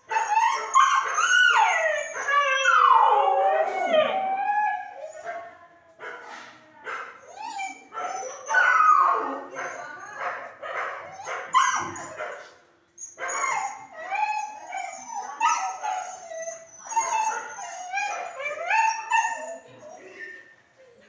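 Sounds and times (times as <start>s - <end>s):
dogs barking and whining: 0.0s - 6.2s, 6.9s - 21.0s.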